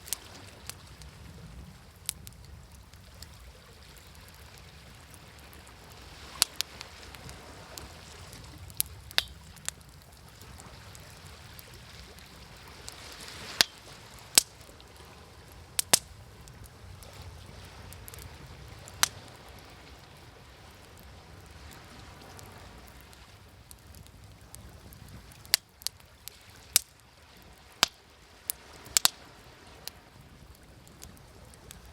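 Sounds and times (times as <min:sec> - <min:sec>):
waves washing: 0:00.0 - 0:31.9
wood fire crackling: 0:00.0 - 0:31.9.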